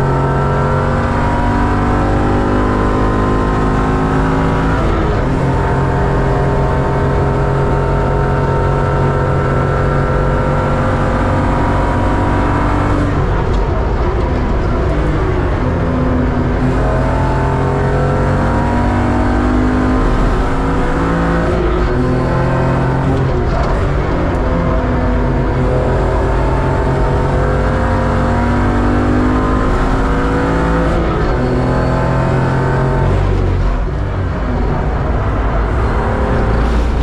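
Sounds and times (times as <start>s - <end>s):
race car engine at hard throttle: 0.0s - 37.0s.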